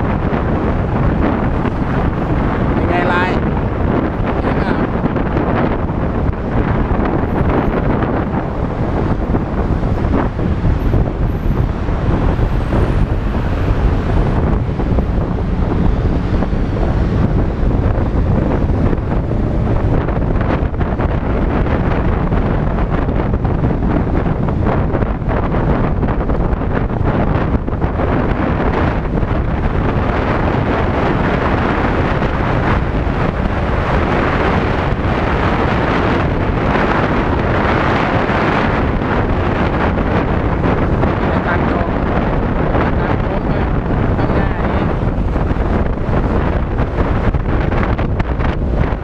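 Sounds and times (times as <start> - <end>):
scooter road noise: 0.0 - 49.0
wind buffeting microphone: 0.0 - 49.0.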